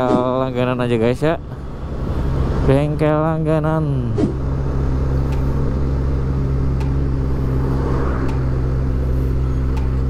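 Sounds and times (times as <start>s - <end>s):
road noise: 0.0s - 10.0s
motorcycle engine running: 1.5s - 10.0s.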